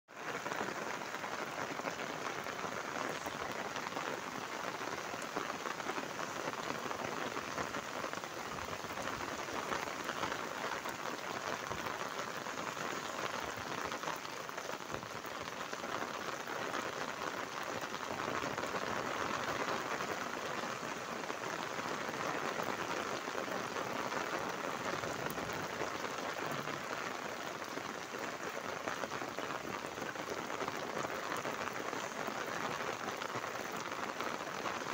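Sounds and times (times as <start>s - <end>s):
rain on a concrete roof: 0.1s - 34.9s.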